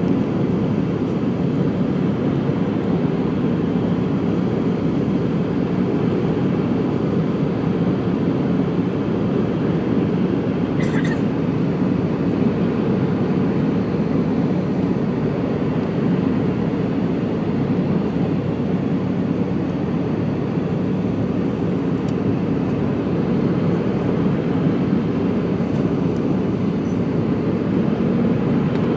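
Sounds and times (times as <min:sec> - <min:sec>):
airplane cabin engine rumble: 0:00.0 - 0:28.9.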